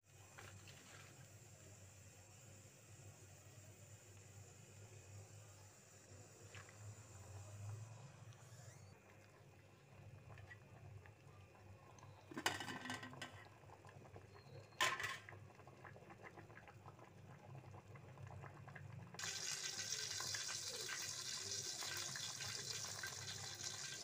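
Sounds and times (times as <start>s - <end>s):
water boiling in metal pot: 0.1s - 24.0s.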